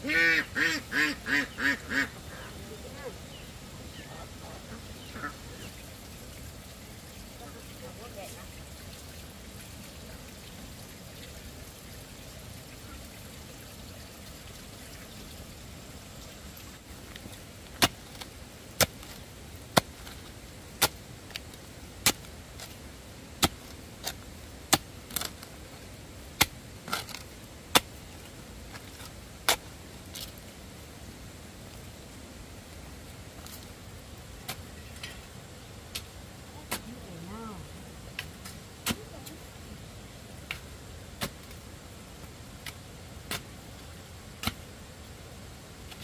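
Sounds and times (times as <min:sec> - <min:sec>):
faint background noise: 0:00.0 - 0:46.0.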